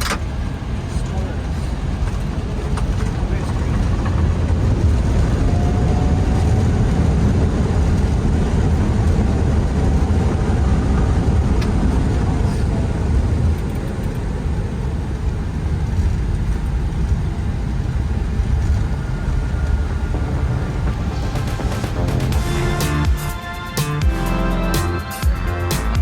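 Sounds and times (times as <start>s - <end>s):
aircraft landing rumble: 0.0s - 24.6s.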